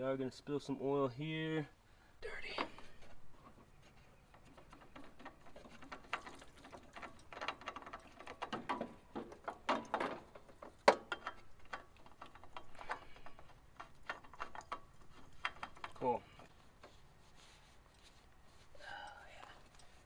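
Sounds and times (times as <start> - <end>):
hand tools metallic clatter: 2.5 - 20.0.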